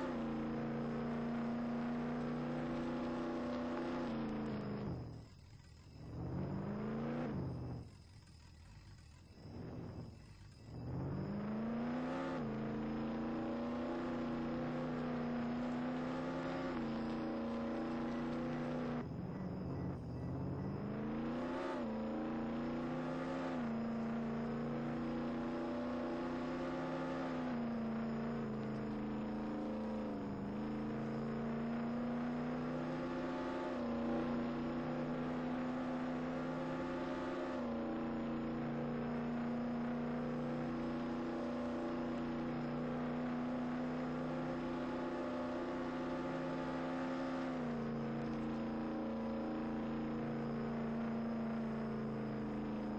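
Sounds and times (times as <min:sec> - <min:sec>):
car motor running: 0:00.0 - 0:08.0, 0:09.4 - 0:52.9.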